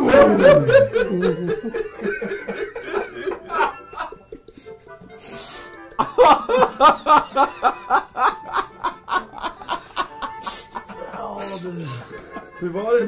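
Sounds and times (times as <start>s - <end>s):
men laughing hard: 0.0s - 4.8s, 5.9s - 12.9s.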